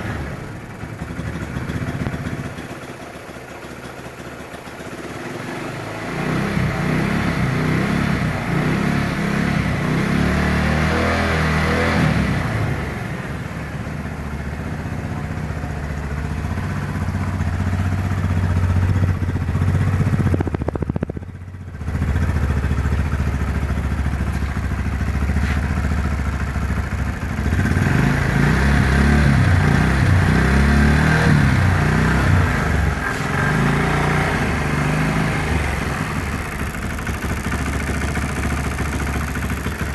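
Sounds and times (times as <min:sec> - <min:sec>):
motorcycle engine revving: 0:00.0 - 0:03.8, 0:04.5 - 0:39.9.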